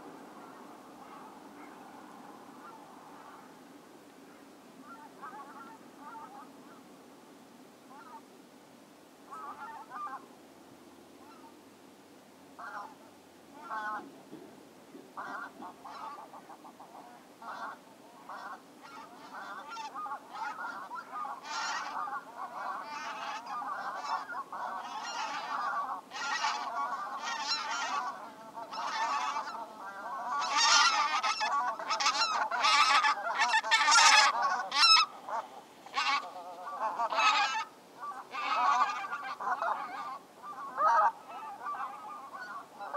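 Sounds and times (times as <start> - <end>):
geese honking: 0.0 - 2.0, 2.6 - 3.5, 4.3 - 6.8, 7.9 - 8.2, 9.3 - 10.2, 11.2 - 11.6, 12.6 - 14.1, 15.2 - 42.9.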